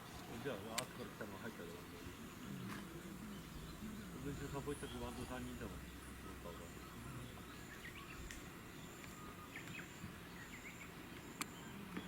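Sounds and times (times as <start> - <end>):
small birds chirping: 0.0 - 12.0
steady low background noise: 0.0 - 12.0.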